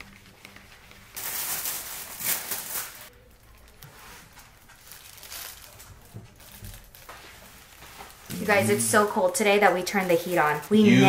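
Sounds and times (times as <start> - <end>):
rustling handling noise: 0.0 - 10.8.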